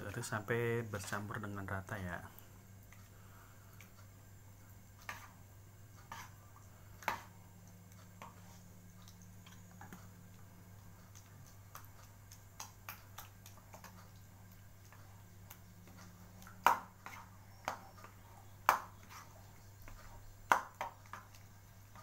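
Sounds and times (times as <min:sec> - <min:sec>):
sauce stirred in wok: 0:00.0 - 0:22.0
steady low hum: 0:00.0 - 0:22.0.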